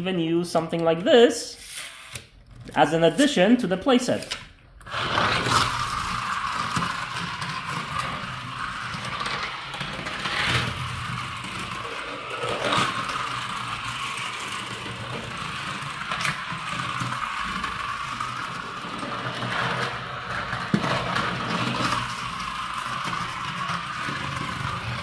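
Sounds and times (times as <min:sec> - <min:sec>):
toy motor whirring: 0:01.6 - 0:02.4, 0:04.8 - 0:25.0.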